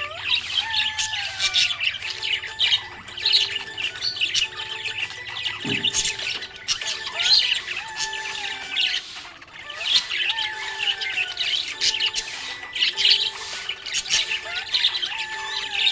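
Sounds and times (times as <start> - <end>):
budgerigar chirping and warbling: 0.0 - 15.9.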